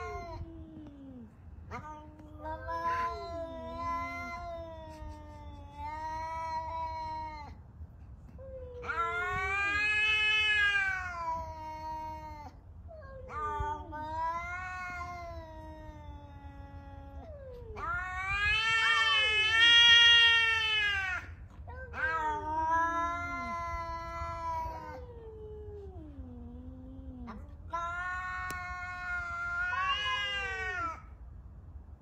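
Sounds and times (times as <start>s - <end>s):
cats yowling: 0.0s - 7.6s, 8.4s - 31.1s.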